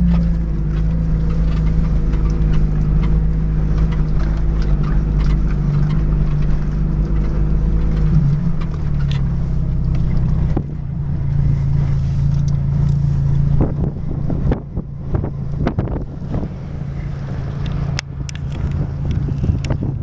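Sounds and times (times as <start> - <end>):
car engine running: 0.0 - 20.0
knocks and rattles in car: 0.0 - 20.0
wind on microphone: 0.2 - 20.0.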